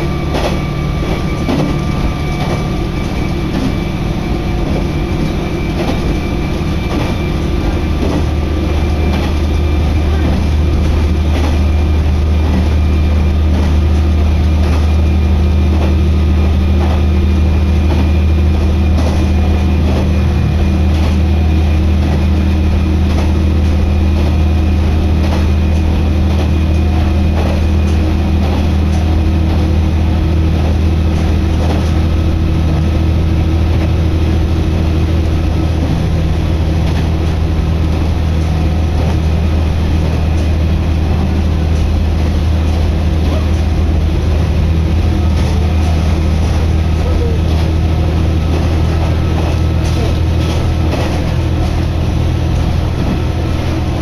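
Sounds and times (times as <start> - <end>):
railcar engine hum: 0.0 - 54.0
train running noise: 0.0 - 54.0.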